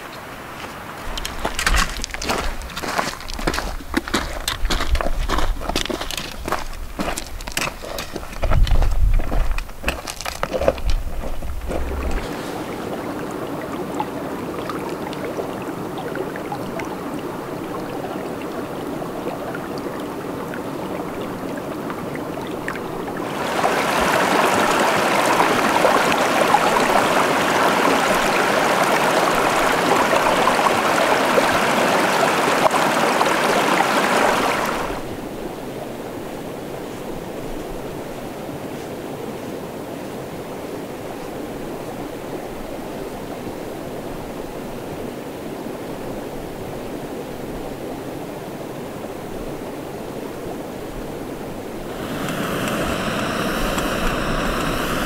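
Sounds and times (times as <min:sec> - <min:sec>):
mountain stream rushing: 0:00.0 - 0:55.0.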